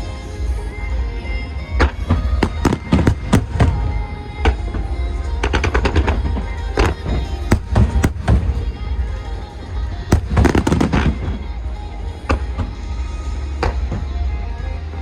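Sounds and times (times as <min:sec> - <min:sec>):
music soundtrack: 0:00.0 - 0:15.0
steady low rumble: 0:00.4 - 0:13.4
fireworks bangs and crackles: 0:01.7 - 0:14.0.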